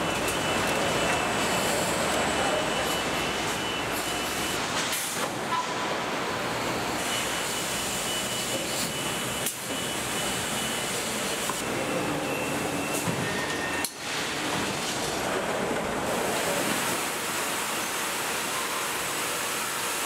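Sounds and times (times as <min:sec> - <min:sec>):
machinery and conveyors humming: 0:00.0 - 0:20.0.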